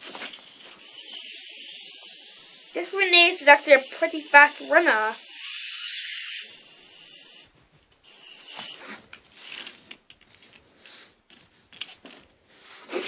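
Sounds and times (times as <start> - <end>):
plastic toy rubbing and scraping: 0.0 - 13.0.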